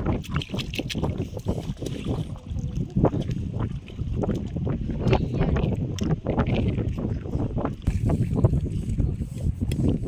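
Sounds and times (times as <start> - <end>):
water splashing: 0.0 - 10.0
wind buffeting microphone: 0.0 - 10.0.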